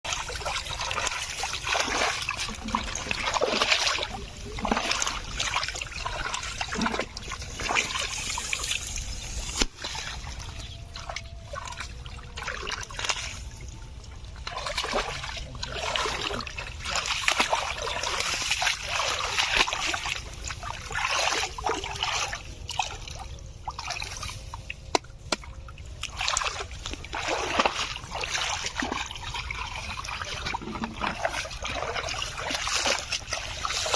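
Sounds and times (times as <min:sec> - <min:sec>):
water splashing and trickling: 0:00.0 - 0:33.9.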